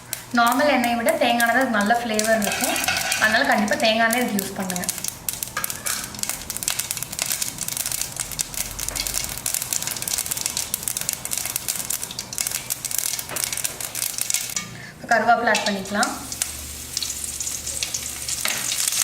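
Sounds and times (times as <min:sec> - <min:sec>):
mustard seeds popping in oil: 0:00.0 - 0:14.7, 0:15.5 - 0:19.0.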